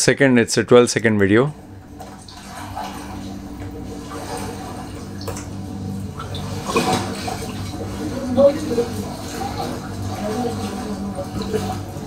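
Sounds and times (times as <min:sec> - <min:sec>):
steady low hum: 0:00.0 - 0:12.0
floodwater sloshing around legs: 0:01.5 - 0:12.0.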